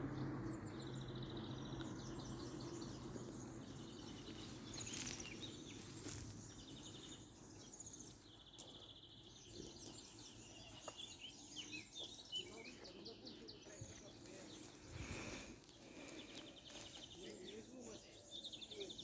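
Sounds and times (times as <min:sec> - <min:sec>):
faint birdsong trills: 0:00.0 - 0:19.0.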